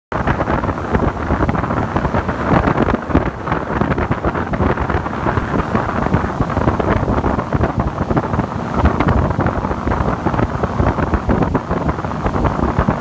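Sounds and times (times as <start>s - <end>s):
boat running on water: 0.1s - 13.0s
wind buffeting microphone: 0.1s - 13.0s.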